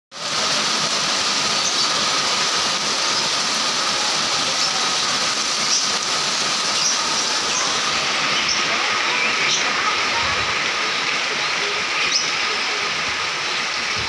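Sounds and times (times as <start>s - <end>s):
heavy rain on a road: 0.1s - 14.0s.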